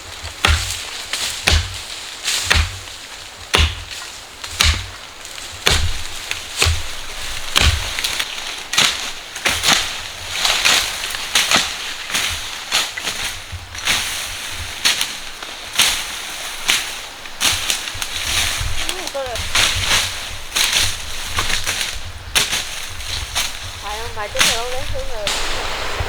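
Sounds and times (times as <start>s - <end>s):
hand tool chopping impacts: 0.4s - 1.8s, 2.4s - 2.9s, 3.5s - 14.0s, 15.8s - 24.9s.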